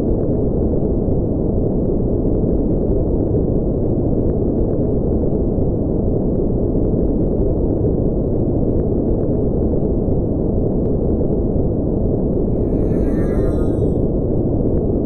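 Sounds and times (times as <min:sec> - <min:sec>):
deep spaceship engine noise: 0:00.0 - 0:15.0.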